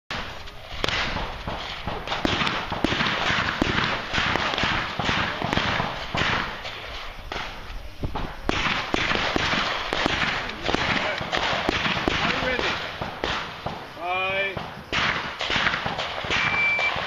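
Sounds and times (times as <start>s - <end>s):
shotgun shots: 0.1s - 7.6s, 8.2s - 17.0s
steady hiss: 0.1s - 17.0s.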